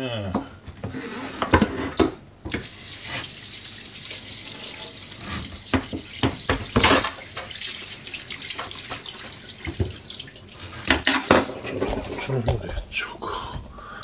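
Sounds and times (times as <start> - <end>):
tap water splashing in sink: 1.5 - 12.8.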